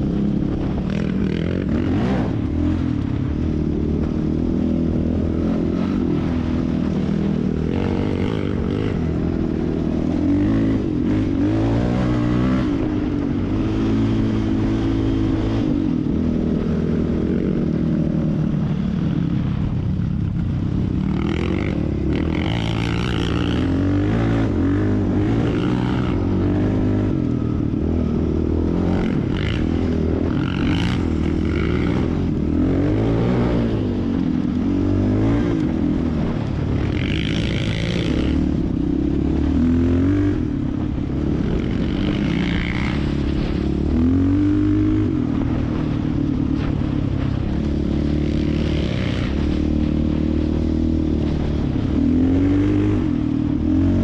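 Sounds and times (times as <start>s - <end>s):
atv engine revving: 0.0s - 19.4s, 20.4s - 54.0s.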